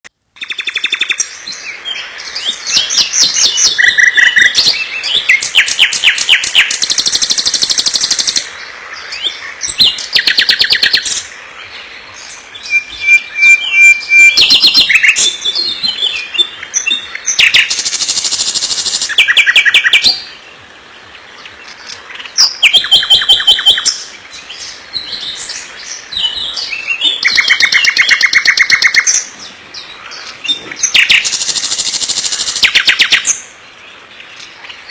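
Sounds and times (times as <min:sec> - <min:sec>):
songbirds trilling and chirping: 0:00.2 - 0:34.9.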